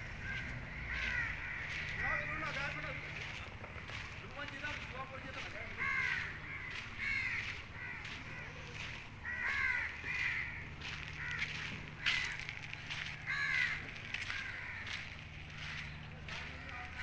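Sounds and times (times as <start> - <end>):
birds calling: 0.0 - 17.0
steady low hum: 0.0 - 17.0.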